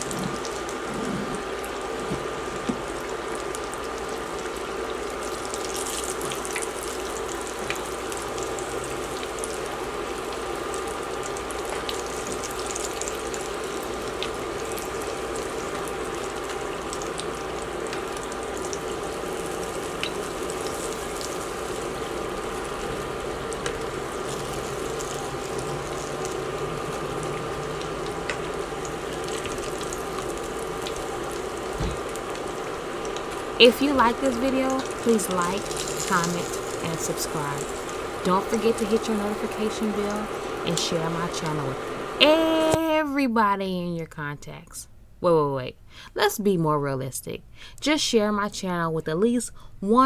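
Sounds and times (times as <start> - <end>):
fish deep-frying in oil: 0.0 - 43.0
faint hum: 0.0 - 50.0.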